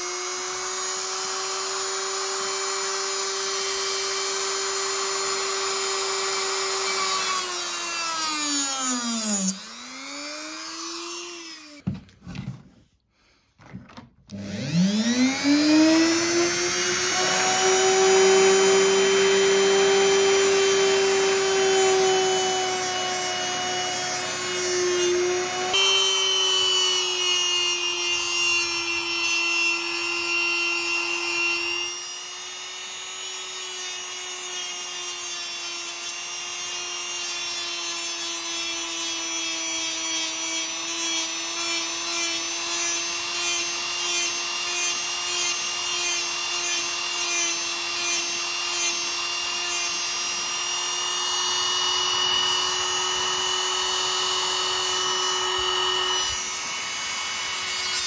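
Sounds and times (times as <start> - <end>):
rotary tool whining: 0.0 - 12.6, 14.3 - 58.0.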